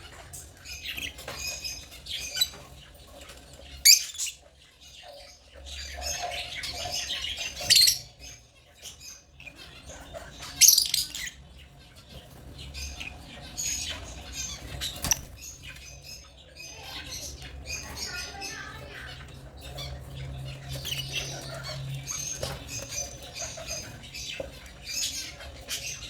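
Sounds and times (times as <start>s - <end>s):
lovebirds chirping and chattering: 0.0s - 26.0s.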